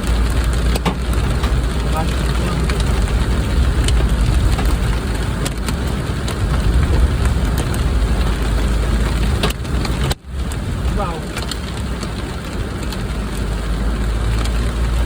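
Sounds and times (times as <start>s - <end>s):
heavy rain on car: 0.0s - 15.0s
road and engine rumble: 0.0s - 15.0s.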